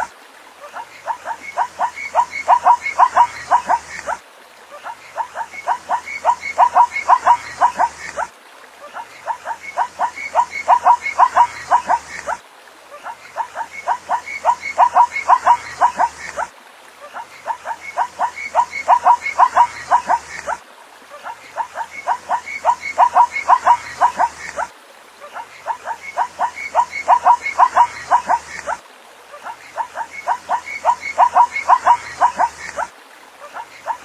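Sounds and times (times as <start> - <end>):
background hiss: 0.0 - 34.0
zebra barking yelps: 0.6 - 4.2, 4.8 - 8.3, 8.9 - 12.4, 13.0 - 20.6, 21.2 - 28.8, 29.4 - 34.0.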